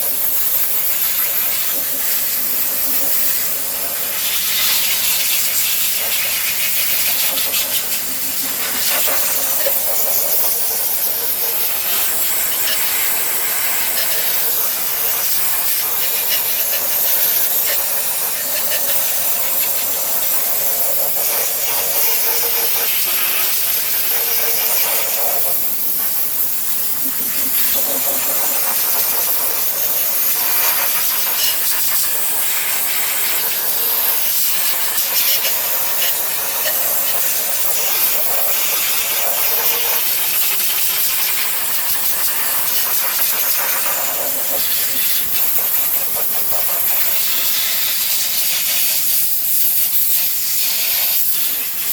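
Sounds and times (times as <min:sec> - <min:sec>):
high-pressure spray hissing: 0:00.0 - 0:51.9.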